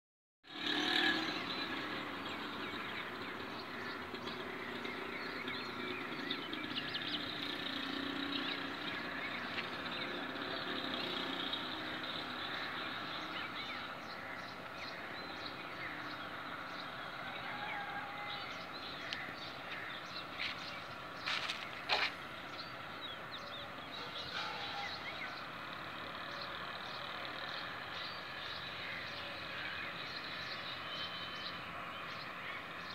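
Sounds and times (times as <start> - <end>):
birds chirping: 0.5 - 32.9.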